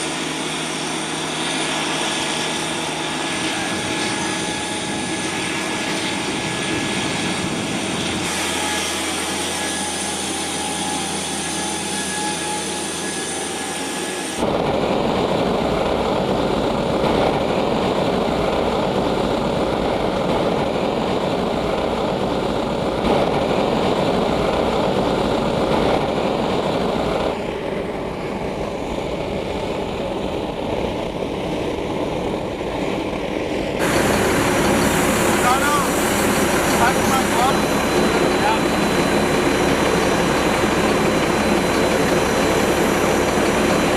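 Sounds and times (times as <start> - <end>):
jet engine whine: 0.0 - 43.9.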